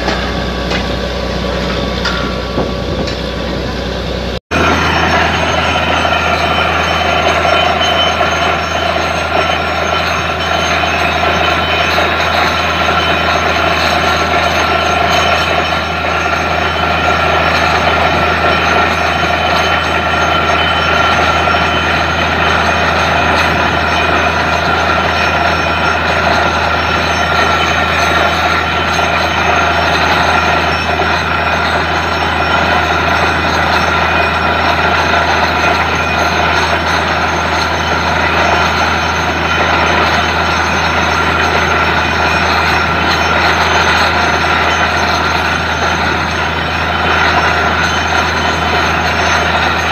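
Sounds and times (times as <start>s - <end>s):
drilling rig engine drone: 0.0s - 49.9s.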